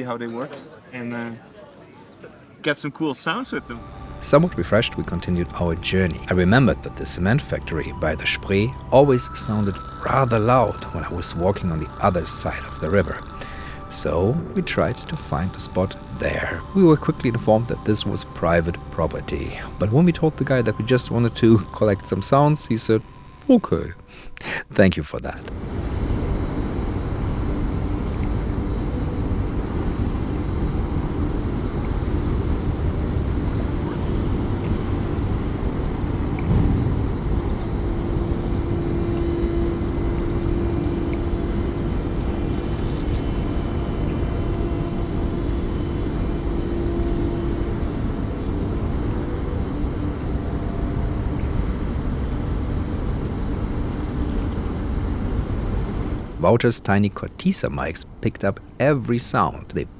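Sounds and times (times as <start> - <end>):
factory machinery rumbling: 3.2 - 59.9.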